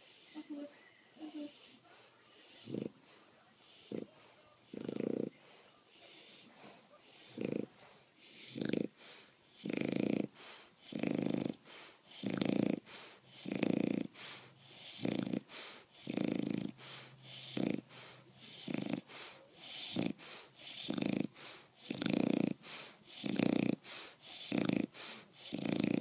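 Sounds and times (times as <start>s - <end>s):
puppy snoring: 0.0s - 26.0s.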